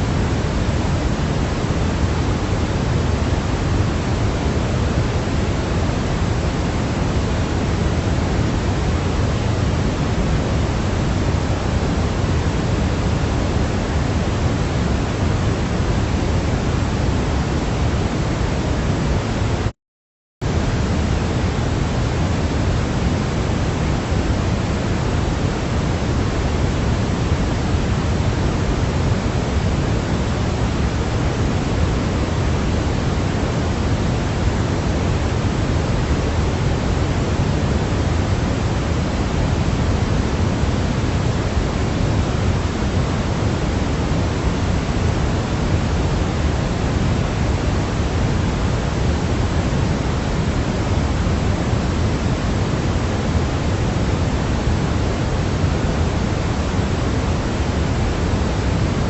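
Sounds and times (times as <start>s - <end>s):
white noise hiss: 0.0s - 19.7s, 20.4s - 59.0s.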